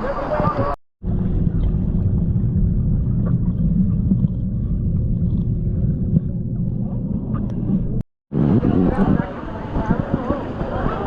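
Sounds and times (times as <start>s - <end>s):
low rumble: 1.0s - 11.0s.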